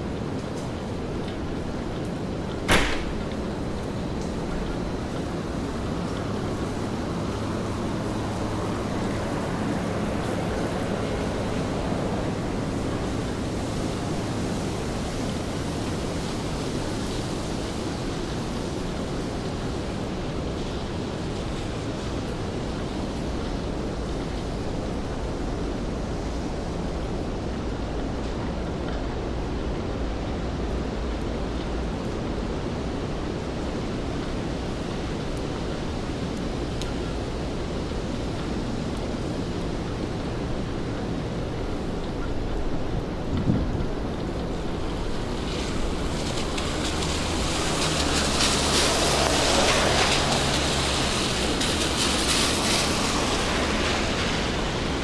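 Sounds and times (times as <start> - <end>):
low traffic rumble: 0.0 - 55.0
rain on a wet street: 0.0 - 55.0.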